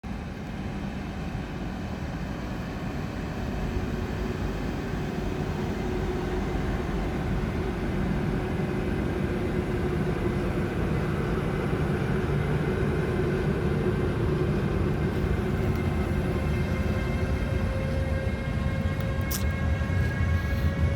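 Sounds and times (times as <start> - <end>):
freight train rumble: 0.0 - 20.9.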